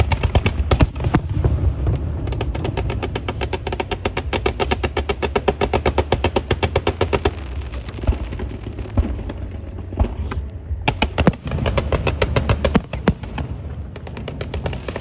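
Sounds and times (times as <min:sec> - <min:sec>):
firecrackers banging: 0:00.0 - 0:15.0
steady low rumble: 0:00.0 - 0:15.0.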